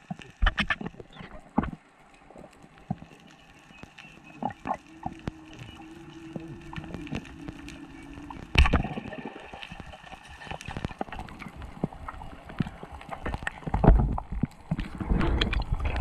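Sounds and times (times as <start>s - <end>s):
underwater crackling clicks: 0.0s - 16.0s.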